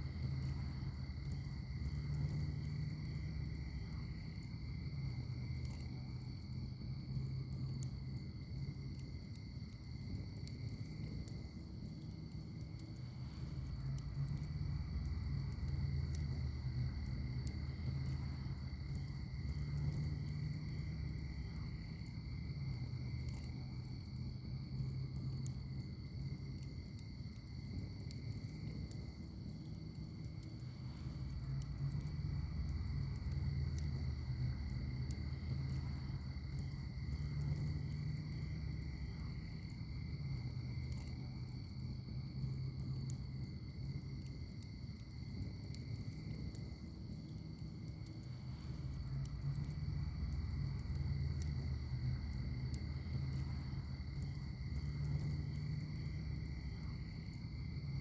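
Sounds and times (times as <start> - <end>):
crickets trilling: 0.0 - 58.0
wood fire crackling: 0.0 - 58.0.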